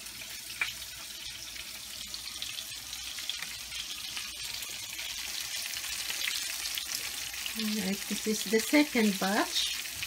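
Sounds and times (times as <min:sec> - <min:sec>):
fish frying in oil: 0:00.0 - 0:10.0.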